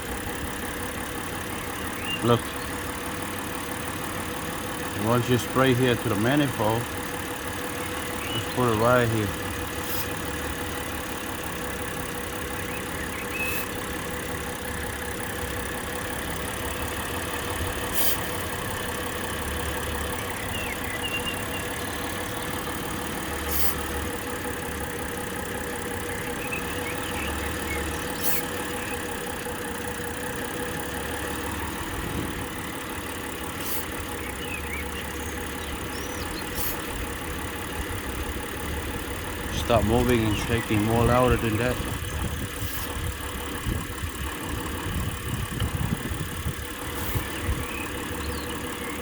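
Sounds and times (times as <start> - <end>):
car engine idling roughly: 0.0 - 49.0.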